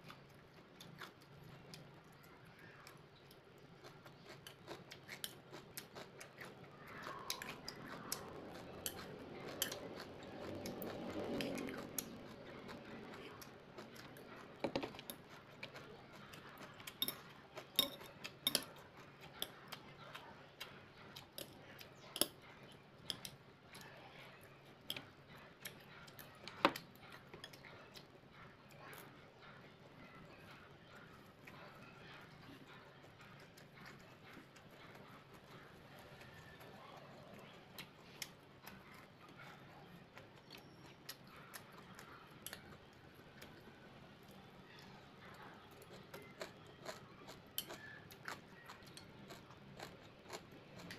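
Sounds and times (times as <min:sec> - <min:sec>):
chewing and eating: 0:00.0 - 0:50.9.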